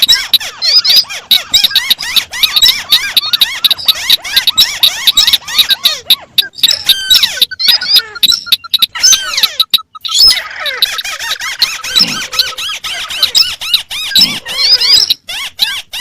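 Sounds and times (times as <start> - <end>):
crakes chattering: 0.0 - 16.0.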